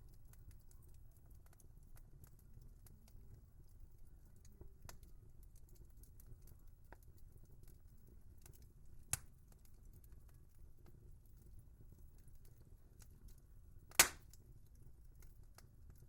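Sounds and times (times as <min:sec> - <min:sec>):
faint wood fire crackling: 0:00.0 - 0:16.0.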